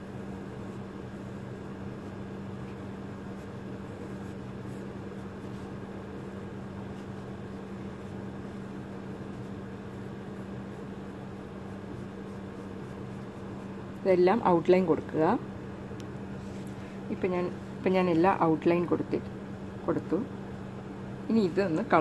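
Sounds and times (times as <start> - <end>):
machine running with low hum: 0.0 - 22.0.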